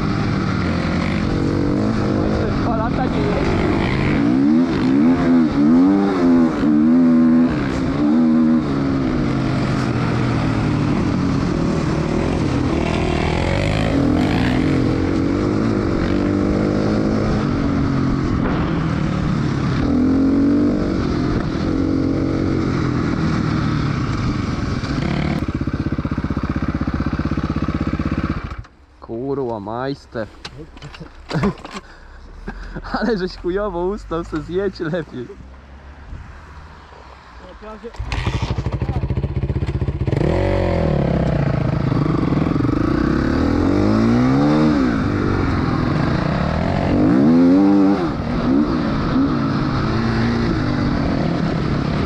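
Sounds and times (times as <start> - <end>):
dirt bike engine revving: 0.0 - 28.6, 38.0 - 52.0.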